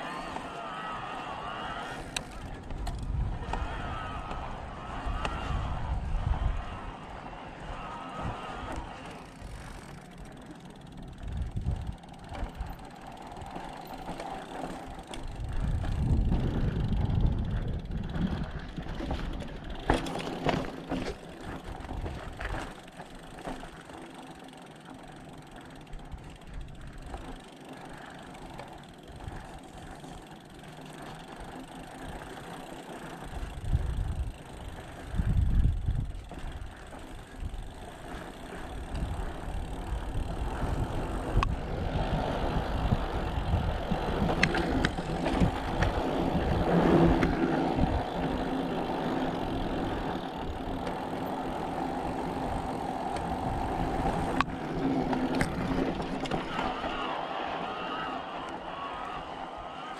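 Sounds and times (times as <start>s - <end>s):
bike freehub ratchet clicking: 0.0s - 58.1s
bike rattling over rock: 7.8s - 41.5s, 42.1s - 57.4s.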